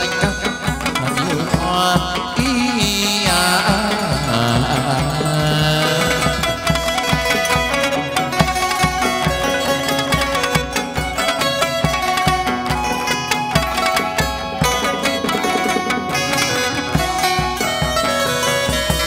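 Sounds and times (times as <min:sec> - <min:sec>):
plucked lute: 0:00.0 - 0:19.0
steady drum beat: 0:00.0 - 0:19.0.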